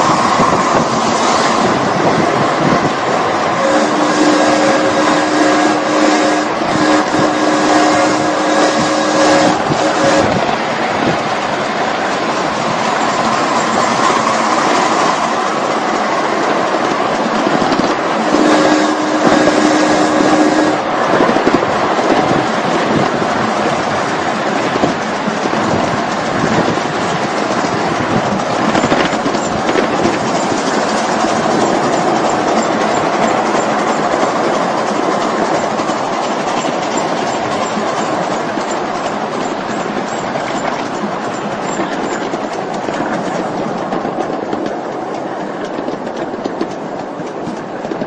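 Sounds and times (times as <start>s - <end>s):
train running on track: 0.0s - 48.0s.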